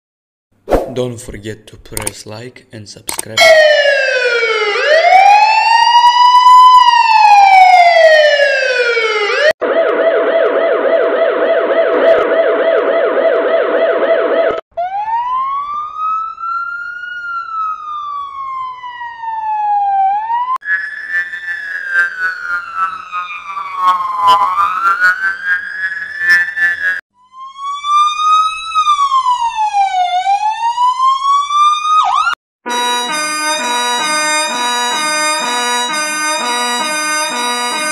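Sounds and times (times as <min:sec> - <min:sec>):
fire truck siren: 0:03.4 - 0:37.9
police siren wailing: 0:03.4 - 0:37.9
rapid warbling siren: 0:03.4 - 0:37.9.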